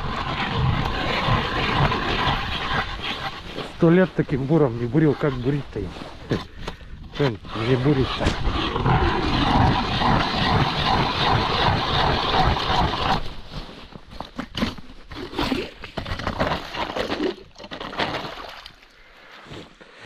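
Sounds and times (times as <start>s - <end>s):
slush crunching and sloshing: 0.0s - 6.6s, 7.2s - 19.4s
ice auger grinding: 0.0s - 13.4s, 14.5s - 18.4s.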